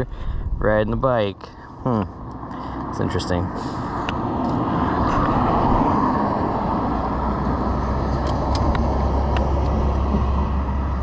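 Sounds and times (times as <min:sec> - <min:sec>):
wind rush: 0:00.0 - 0:01.4, 0:02.9 - 0:11.0
road noise: 0:00.0 - 0:11.0.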